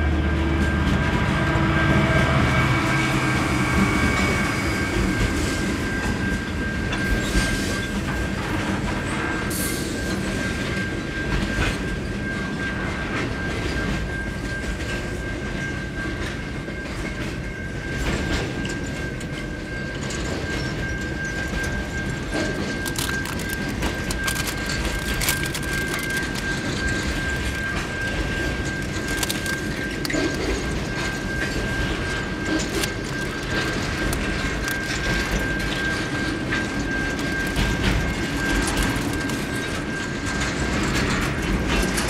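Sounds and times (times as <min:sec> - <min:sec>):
diesel locomotive engines humming: 0:00.0 - 0:42.0
freight wagons rumbling: 0:00.0 - 0:42.0.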